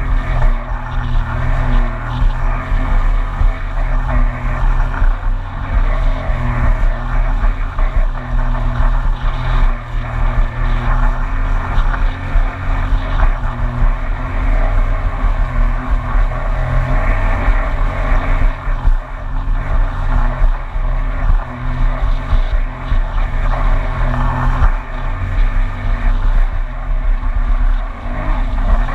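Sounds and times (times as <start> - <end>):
personal watercraft engine running: 0.0 - 28.9.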